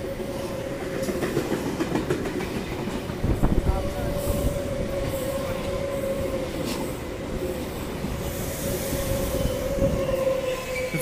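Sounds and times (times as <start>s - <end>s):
electric train whine: 0.0s - 11.0s
train wheels rumbling on rails: 0.0s - 11.0s.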